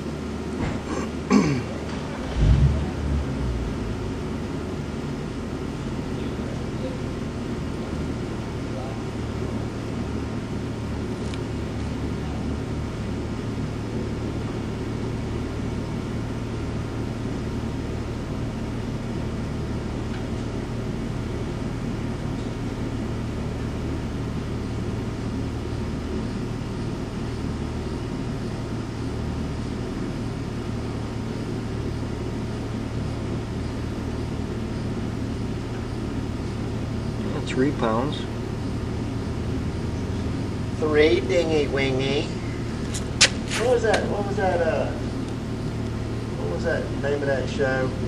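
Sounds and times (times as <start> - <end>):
machinery humming: 0.0 - 48.0.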